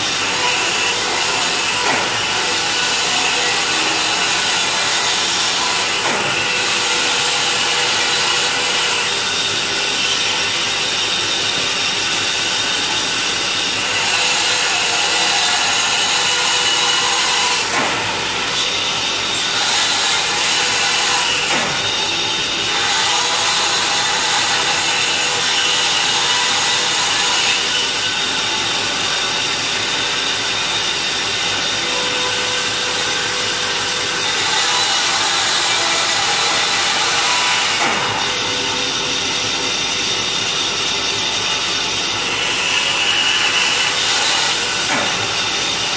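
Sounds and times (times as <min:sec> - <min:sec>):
band saw cutting wood: 0:00.0 - 0:45.9.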